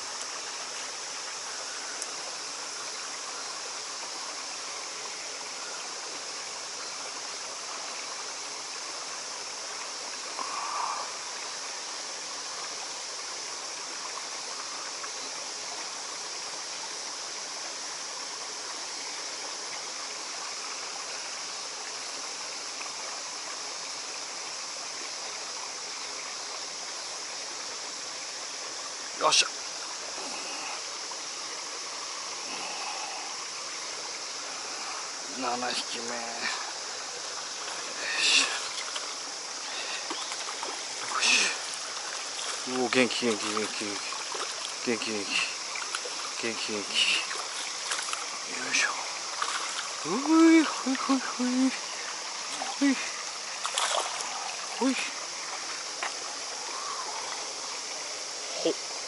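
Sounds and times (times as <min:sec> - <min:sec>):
stream water rushing through rocks: 0:00.0 - 0:59.0.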